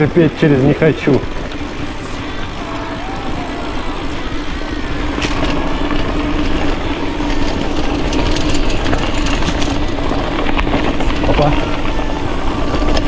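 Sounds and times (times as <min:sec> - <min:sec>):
bike rattling and clicking: 0:00.0 - 0:13.0
bike tyres on dirt: 0:00.0 - 0:13.0
steady hum: 0:00.0 - 0:13.0
wind rumble on microphone: 0:00.0 - 0:13.0.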